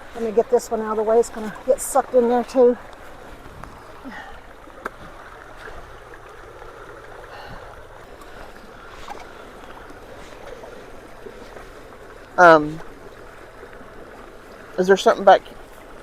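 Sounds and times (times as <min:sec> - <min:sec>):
floodwater rushing into culvert: 0:00.0 - 0:16.0.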